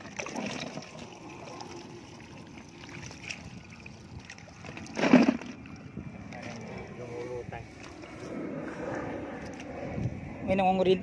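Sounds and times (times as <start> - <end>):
faint splashes: 0.0 - 9.8
shallow water sloshing: 0.0 - 9.9.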